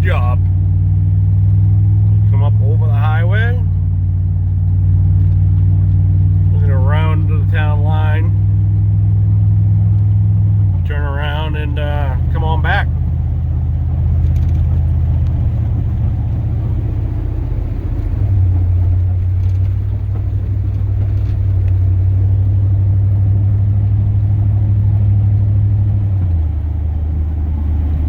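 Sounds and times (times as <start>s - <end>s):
truck engine drone from inside: 0.0s - 28.0s.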